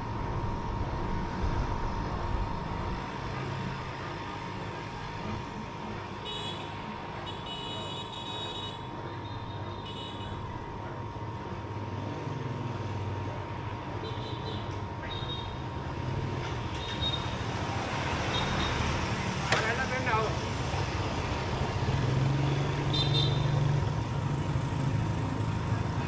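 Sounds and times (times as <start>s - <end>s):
faint constant tone: 0.0s - 26.0s
road traffic rumble: 0.0s - 26.0s.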